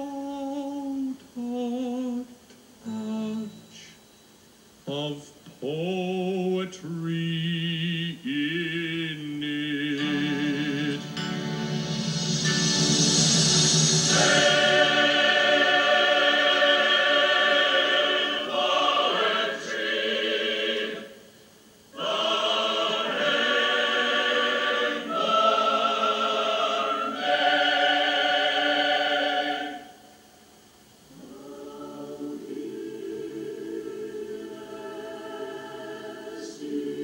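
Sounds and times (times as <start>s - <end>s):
choir singing held chords: 4.9s - 37.0s.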